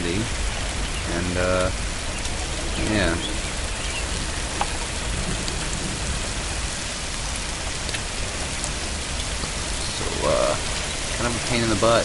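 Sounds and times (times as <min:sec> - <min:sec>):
rain drop ticks: 0:00.0 - 0:12.0
steady rain hiss: 0:00.0 - 0:12.0.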